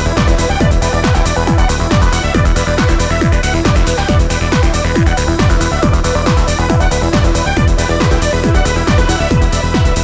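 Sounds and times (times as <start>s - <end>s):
trance dance music: 0.0s - 10.0s.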